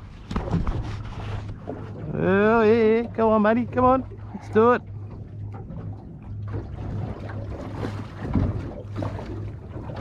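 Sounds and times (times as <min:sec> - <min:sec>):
water noise: 0:00.0 - 0:10.0.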